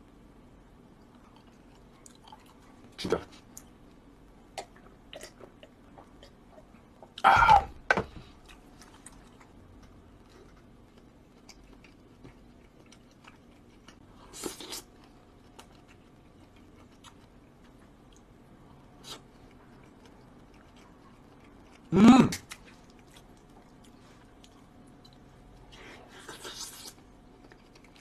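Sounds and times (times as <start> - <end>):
person chewing food: 1.0 - 3.8, 8.0 - 28.0.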